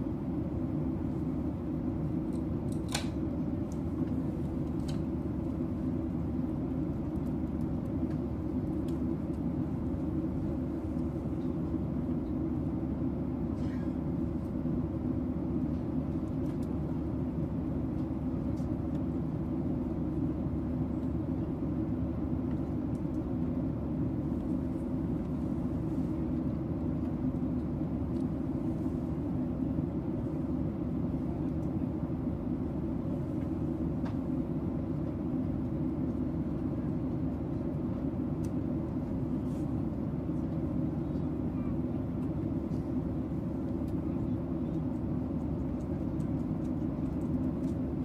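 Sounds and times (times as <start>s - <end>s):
aircraft engines humming: 0.0s - 48.0s.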